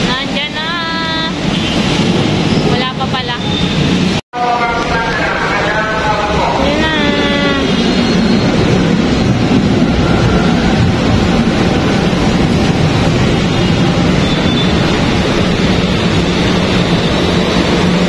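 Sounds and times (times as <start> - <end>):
light-rail train rumbling: 0.0 - 18.0.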